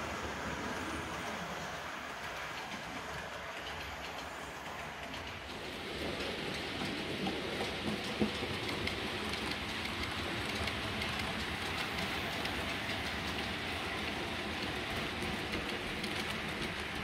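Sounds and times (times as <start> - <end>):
model train wheels rolling on rails: 0.0 - 17.0
ticks at rail joints: 2.1 - 17.0.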